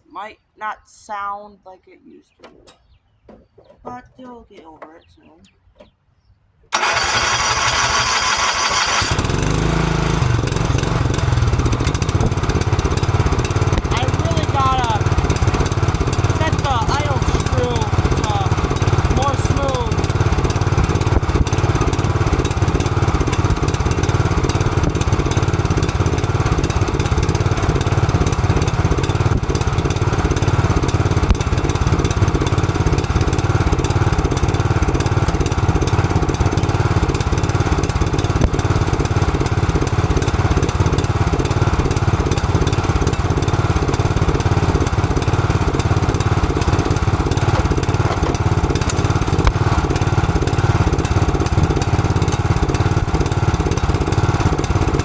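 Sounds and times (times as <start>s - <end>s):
lawn mower engine running: 2.4s - 55.0s.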